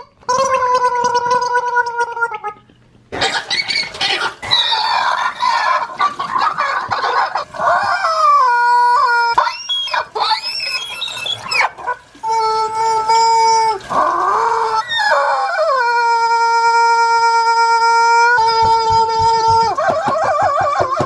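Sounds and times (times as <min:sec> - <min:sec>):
chicken squawking and clucking: 0:00.0 - 0:21.0.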